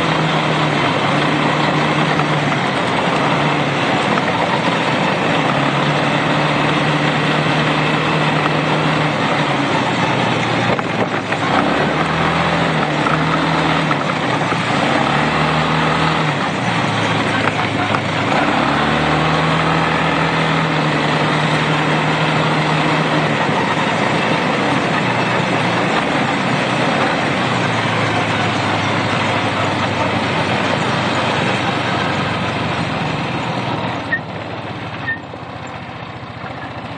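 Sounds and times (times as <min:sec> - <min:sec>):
quad bike engine revving: 0:00.0 - 0:36.9
wind and road noise: 0:00.0 - 0:36.9.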